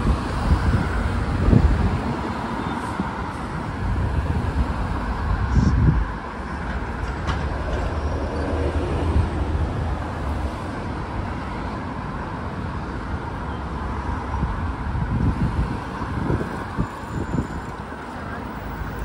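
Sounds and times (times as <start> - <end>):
wind rumble on microphone: 0.0 - 10.4, 14.2 - 19.0
road traffic: 0.0 - 19.0.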